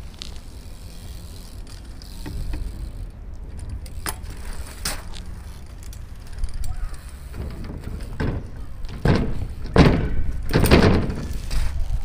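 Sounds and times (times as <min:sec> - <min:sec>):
bike clicks and rattles: 0:00.0 - 0:12.0
bike tyres rumbling on paving: 0:00.0 - 0:12.0.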